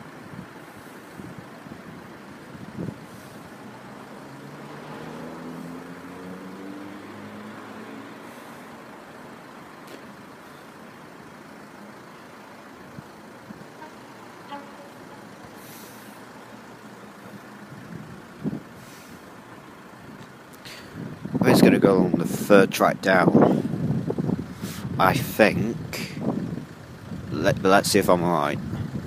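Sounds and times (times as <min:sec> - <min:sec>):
distant vehicles rumbling: 0:00.0 - 0:29.0
vehicle pulling away: 0:00.0 - 0:29.0.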